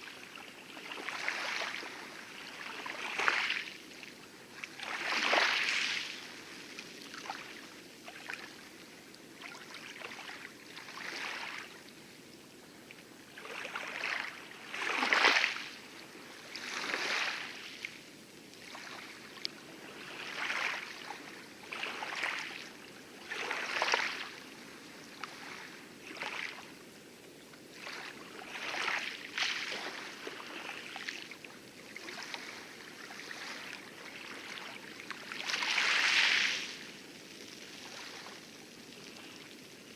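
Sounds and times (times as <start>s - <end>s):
waves lapping and splashing: 0.0s - 39.9s.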